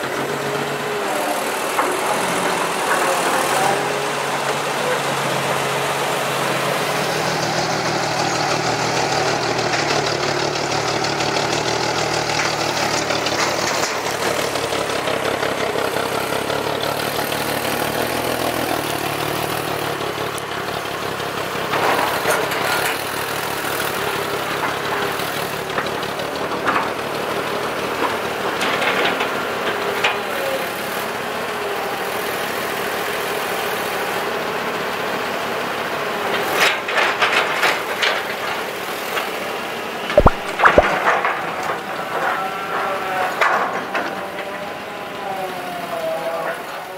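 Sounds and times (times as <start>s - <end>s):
dump truck diesel engine under load: 0.0s - 46.9s.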